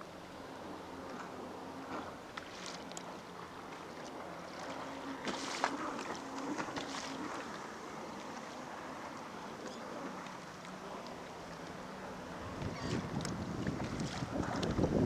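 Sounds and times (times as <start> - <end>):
water lapping against kayak hull: 0.0 - 15.0
small water splashes: 1.9 - 15.0.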